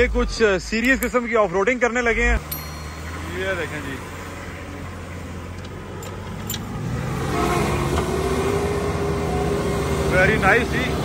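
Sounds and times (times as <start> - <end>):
engine revving: 2.0 - 11.0.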